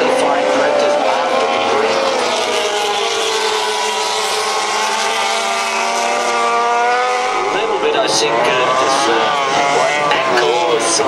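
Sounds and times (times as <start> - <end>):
racing motorcycle engine revving: 0.0 - 11.0.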